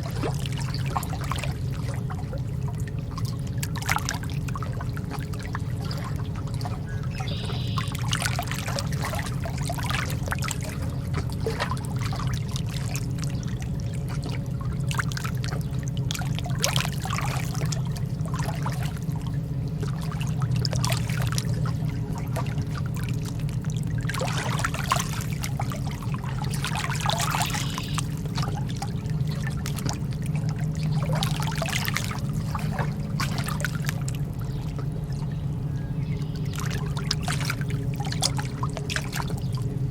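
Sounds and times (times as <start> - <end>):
steady low rumble: 0.0 - 39.9
water sloshing and trickling: 0.0 - 39.9.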